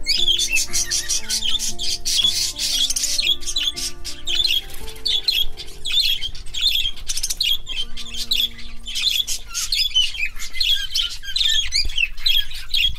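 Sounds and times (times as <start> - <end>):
parakeets chattering: 0.0 - 12.9.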